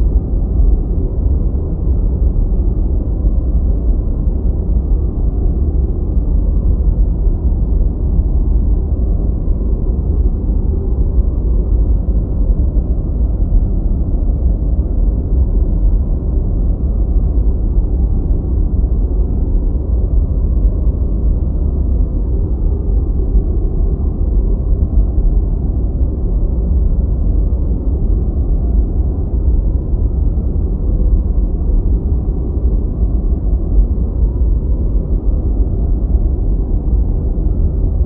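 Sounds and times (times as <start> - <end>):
deep white noise: 0.0 - 38.0.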